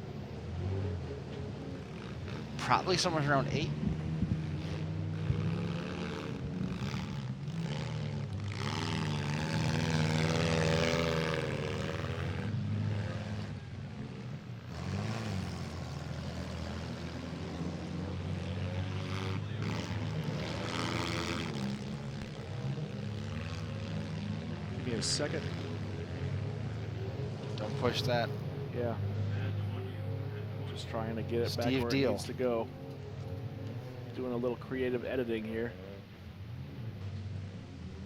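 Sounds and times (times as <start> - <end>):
car engines revving: 0.0 - 38.0.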